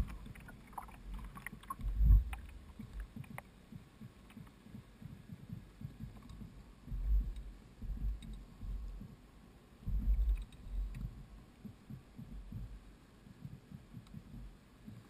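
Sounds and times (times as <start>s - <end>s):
low rumbling bumps and buffeting: 0.0s - 9.2s, 9.8s - 15.0s.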